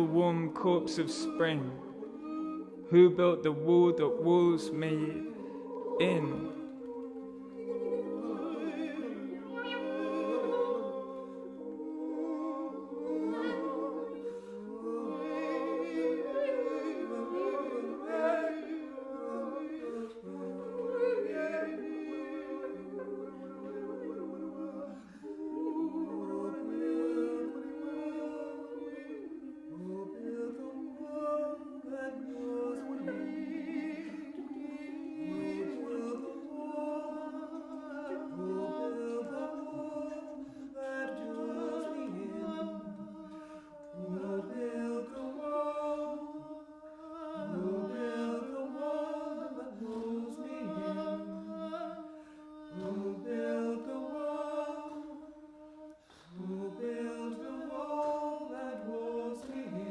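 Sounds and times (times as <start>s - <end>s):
choir singing harmony: 0.0s - 59.9s.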